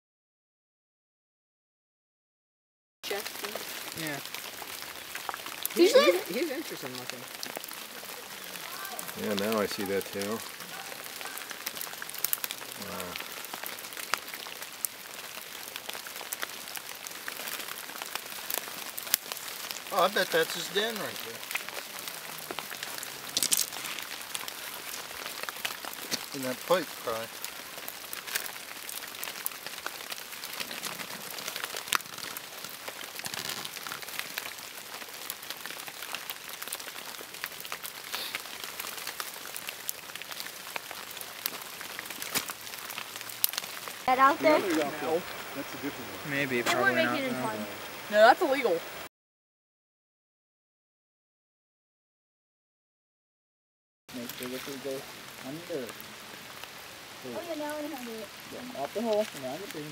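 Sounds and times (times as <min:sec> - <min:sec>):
light rain hissing: 0:03.0 - 0:49.1, 0:54.1 - 0:59.9
raindrops ticking: 0:03.0 - 0:49.1, 0:54.1 - 0:59.9.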